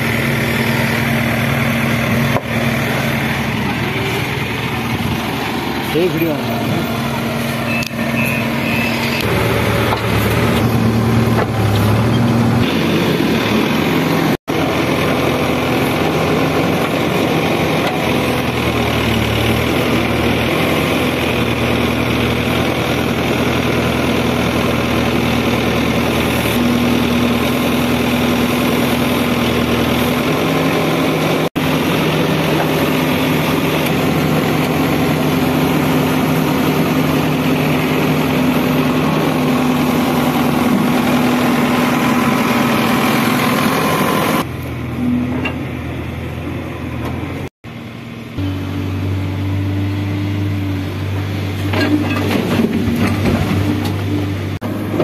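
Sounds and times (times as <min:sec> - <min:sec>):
backhoe digging soil: 0:00.0 - 0:47.4, 0:48.4 - 0:55.0
diesel engine running: 0:00.0 - 0:55.0.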